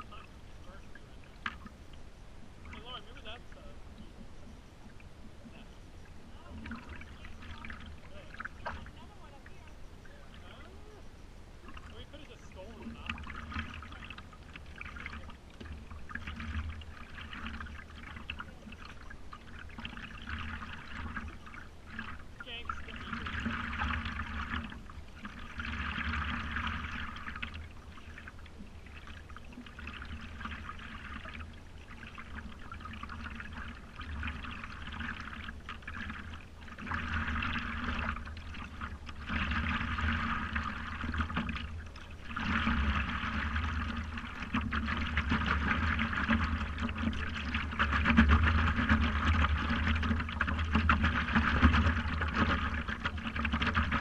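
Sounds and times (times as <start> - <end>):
water gurgling against paddleboard: 0.0 - 54.0.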